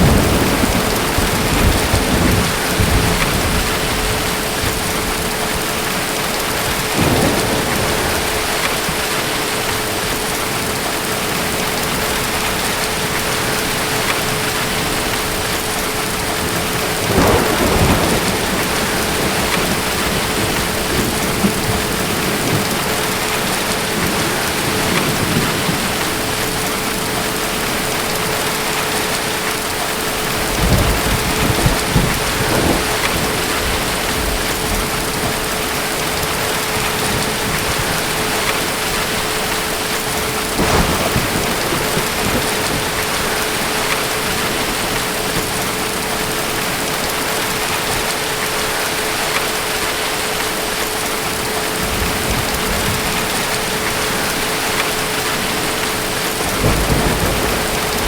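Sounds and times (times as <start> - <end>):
distant thunder: 0.0 - 29.4, 30.0 - 48.1, 51.8 - 58.0
heavy rain: 0.0 - 58.0.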